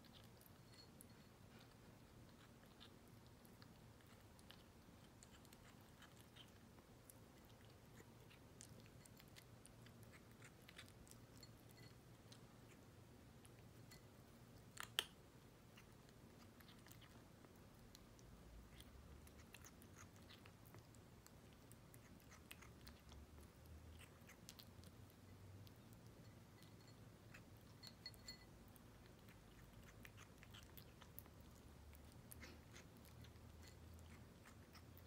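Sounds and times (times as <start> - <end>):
kitten chewing food: 0.0 - 35.0.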